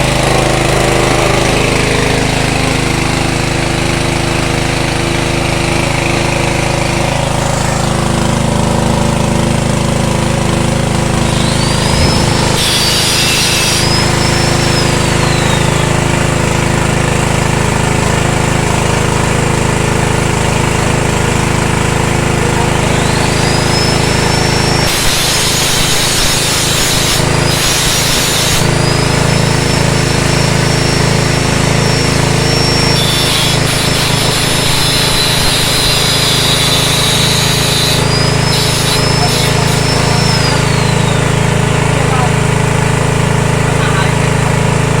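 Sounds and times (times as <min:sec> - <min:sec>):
petrol engine running: 0:00.0 - 0:45.0
shredder grinding: 0:00.0 - 0:45.0.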